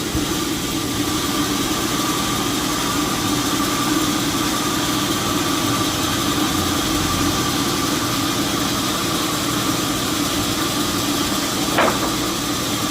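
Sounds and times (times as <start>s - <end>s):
sawmill machinery humming: 0.0s - 12.9s.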